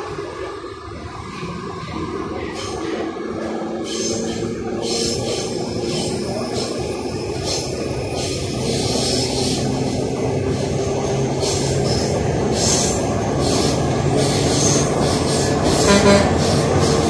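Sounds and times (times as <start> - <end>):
hissing wheel noise: 0.0 - 17.0
train rumbling on rails: 0.0 - 17.0.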